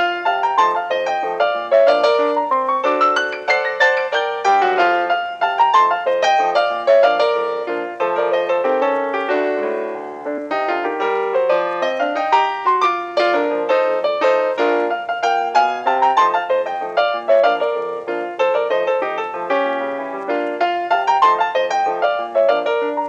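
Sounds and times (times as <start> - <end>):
quick piano music: 0.0 - 23.0.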